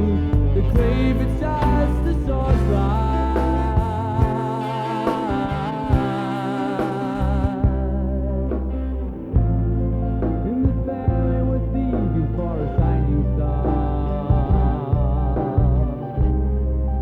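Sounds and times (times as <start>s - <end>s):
song with singer and band: 0.0s - 17.0s.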